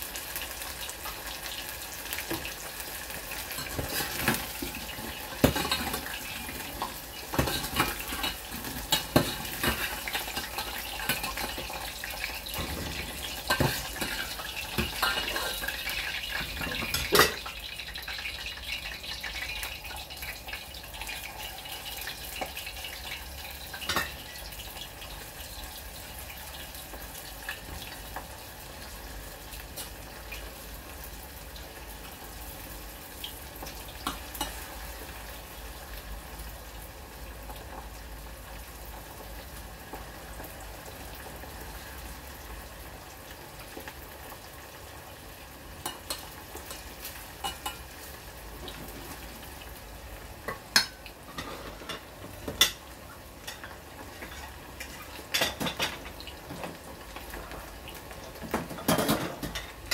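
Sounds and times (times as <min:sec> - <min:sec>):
hot oil sizzling: 0:00.0 - 0:59.9.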